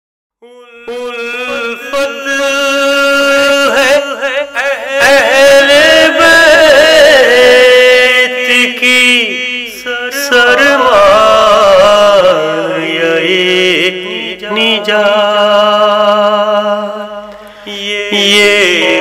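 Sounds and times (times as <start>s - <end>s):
person chanting: 0.4s - 19.0s.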